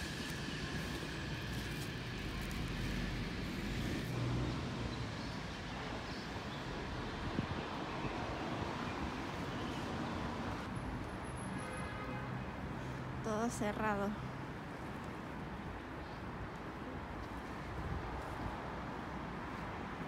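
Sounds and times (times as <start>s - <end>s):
traffic on wet road: 0.0s - 20.0s.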